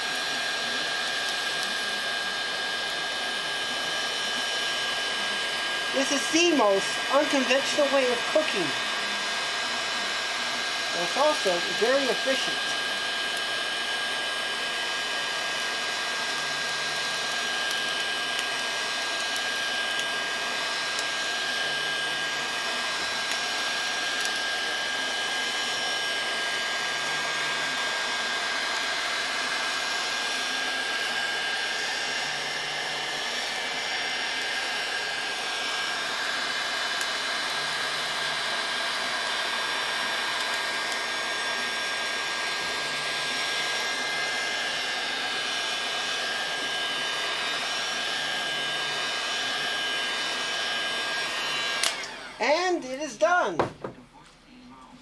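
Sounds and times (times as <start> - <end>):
heat gun blowing with whine: 0.0 - 54.0.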